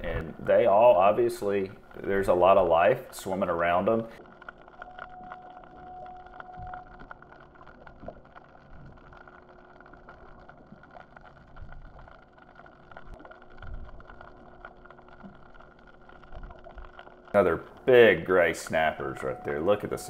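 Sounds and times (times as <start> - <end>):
faint steady hum: 0.0 - 20.0
muffled underwater rumbles and knocks: 0.0 - 20.0.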